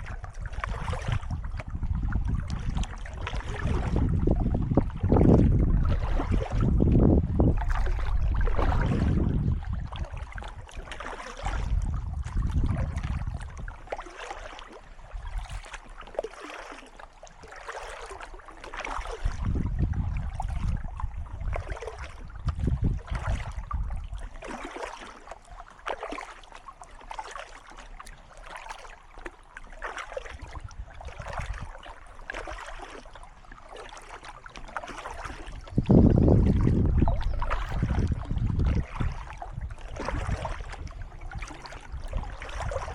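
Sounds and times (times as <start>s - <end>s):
paddle strokes splashing water: 0.0s - 42.9s.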